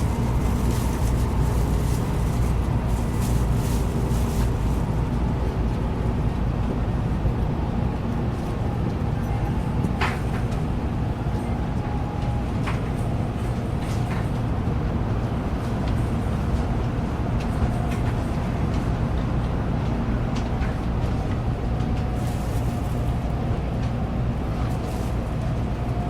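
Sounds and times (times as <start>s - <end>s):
train cabin low rumble: 0.0s - 26.0s.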